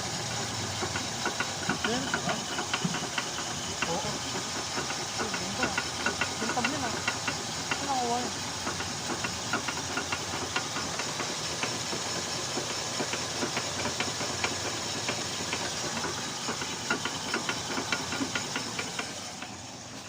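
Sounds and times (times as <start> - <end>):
car engine running with hiss: 0.0 - 20.0.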